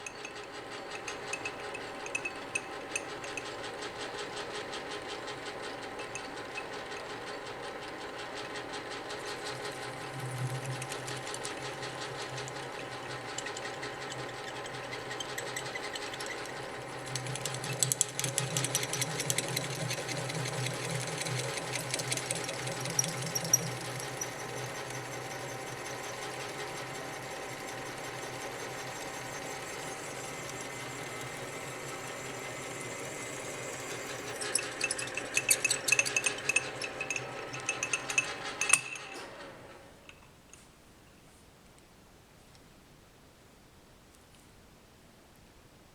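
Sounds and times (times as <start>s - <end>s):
lathe running: 0.0s - 39.8s.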